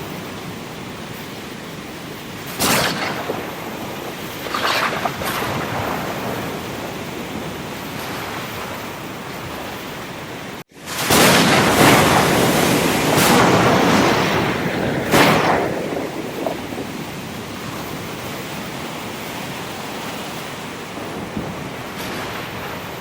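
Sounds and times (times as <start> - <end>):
steady surf wash: 0.0 - 23.0
waves crashing: 0.0 - 23.0.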